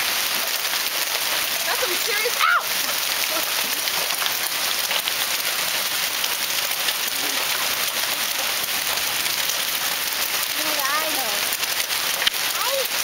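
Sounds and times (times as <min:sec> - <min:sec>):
hail striking hard surfaces: 0:00.0 - 0:13.0.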